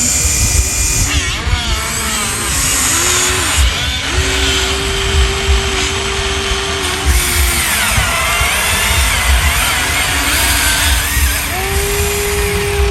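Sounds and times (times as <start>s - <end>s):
small electric motors whirring: 0.0s - 12.9s.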